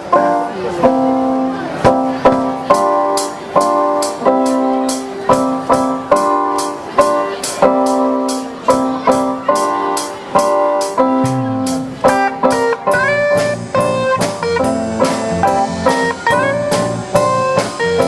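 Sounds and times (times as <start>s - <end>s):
live band chords: 0.0s - 18.0s.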